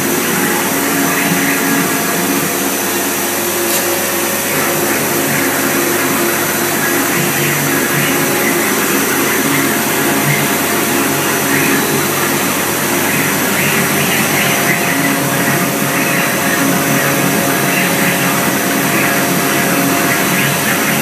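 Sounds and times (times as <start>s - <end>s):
cnc router steady rushing noise: 0.0s - 21.0s.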